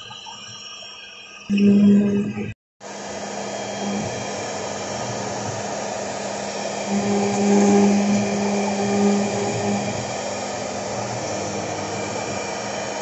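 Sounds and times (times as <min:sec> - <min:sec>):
router spindle whirring: 0:01.5 - 0:13.0.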